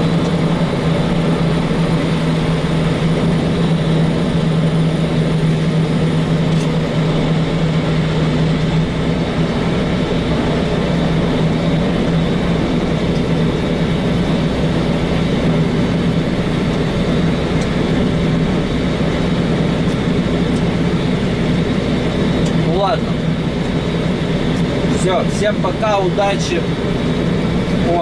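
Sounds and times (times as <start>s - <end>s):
road and wind noise: 0.0s - 28.0s
truck diesel engine droning: 0.0s - 28.0s.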